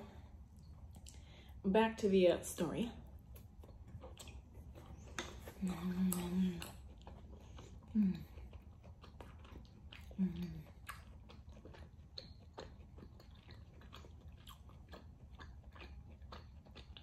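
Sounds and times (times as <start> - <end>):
chewing mouth sounds: 0.4 - 1.3, 3.0 - 17.0.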